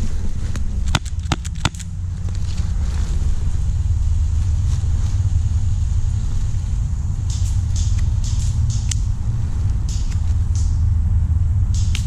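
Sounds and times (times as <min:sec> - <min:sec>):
dry leaves crackling: 0:00.0 - 0:12.0
wind rumble on microphone: 0:00.0 - 0:12.0.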